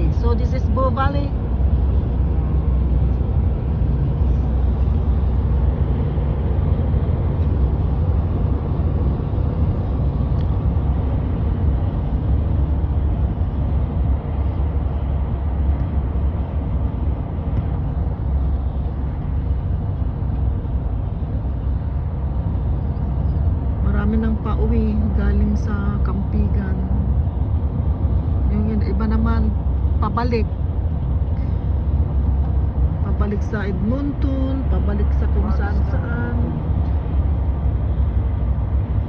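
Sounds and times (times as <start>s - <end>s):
road and engine drone in cabin: 0.0s - 39.0s.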